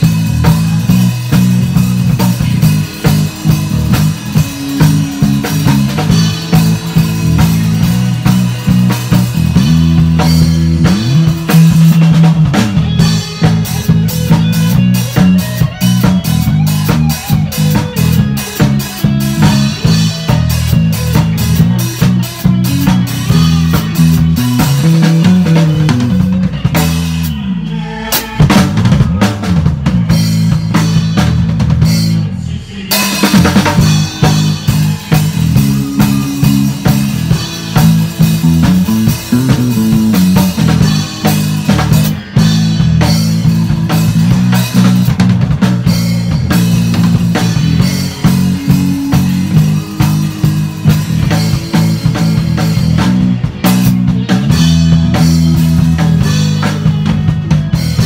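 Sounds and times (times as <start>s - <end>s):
drum kit playing: 0.0s - 58.0s
electric bass playing: 0.0s - 58.0s.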